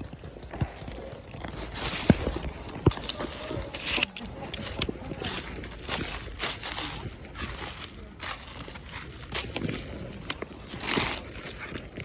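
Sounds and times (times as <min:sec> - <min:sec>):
footsteps in undergrowth: 0:00.0 - 0:12.0
leaves and brush rustling: 0:00.7 - 0:12.0.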